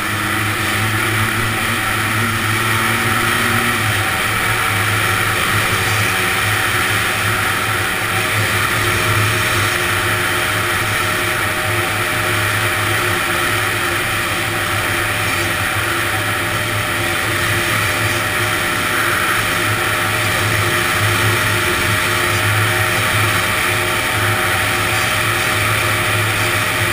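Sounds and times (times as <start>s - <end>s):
two-stroke engine running: 0.0s - 26.9s.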